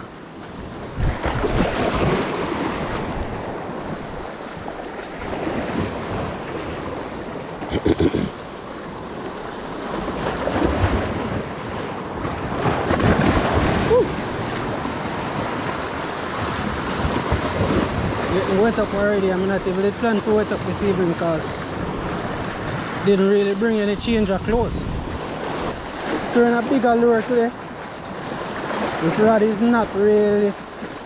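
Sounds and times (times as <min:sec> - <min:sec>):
waves washing over rocks: 0:00.0 - 0:31.0
wind buffeting microphone: 0:00.6 - 0:08.4, 0:09.8 - 0:26.9.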